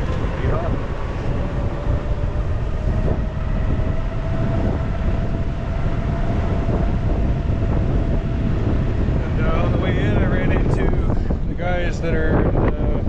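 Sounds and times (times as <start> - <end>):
thin whine: 0.0 - 13.0
vehicle engine rumbling: 0.0 - 13.0.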